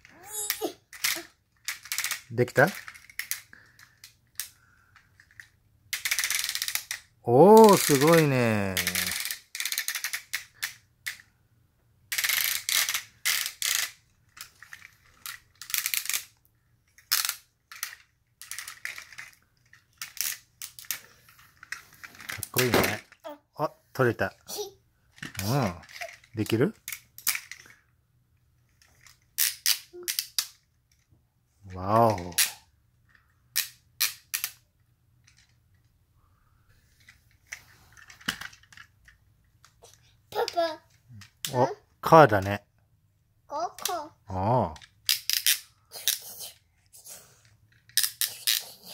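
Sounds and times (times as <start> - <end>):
plastic toy clicking and rattling: 0.0 - 11.3, 12.1 - 23.4, 24.5 - 27.9, 28.6 - 31.1, 32.0 - 35.9, 37.0 - 41.6, 43.5 - 48.9.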